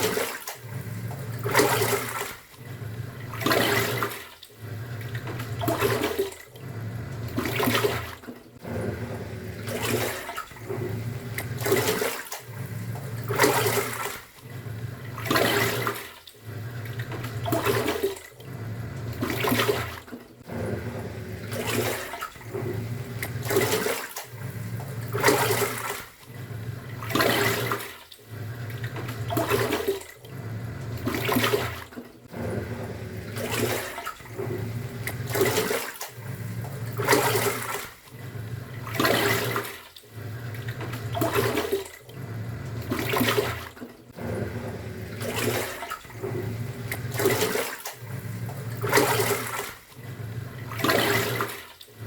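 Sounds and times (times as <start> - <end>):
washing machine motor hum: 0.0 - 52.0
water sloshing in drum: 0.0 - 52.0.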